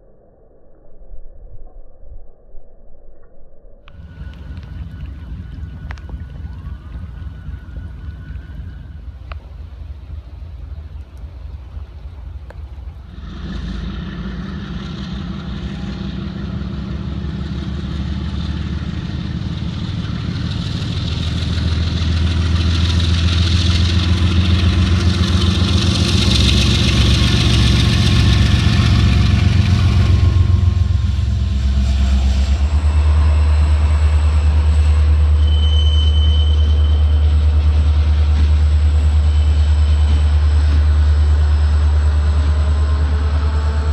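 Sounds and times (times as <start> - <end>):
diesel locomotives passing: 3.9 - 43.9.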